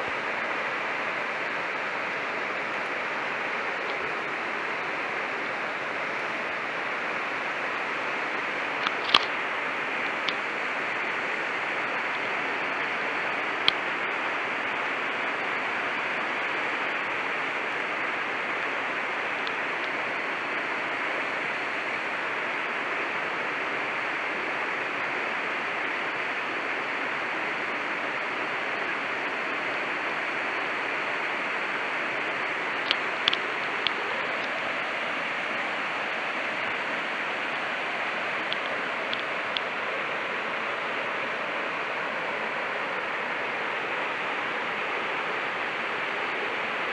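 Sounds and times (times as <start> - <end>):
small waterfall rushing: 0.0 - 46.9.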